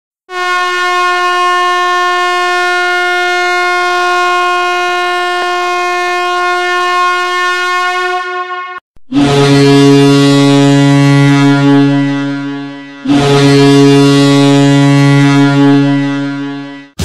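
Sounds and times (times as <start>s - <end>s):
air horn blast: 0.3s - 17.0s.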